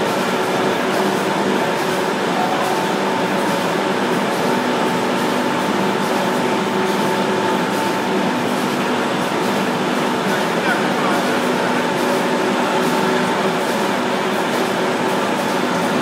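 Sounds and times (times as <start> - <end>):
bag making machine running: 0.0 - 16.0
machine whine: 0.0 - 16.0.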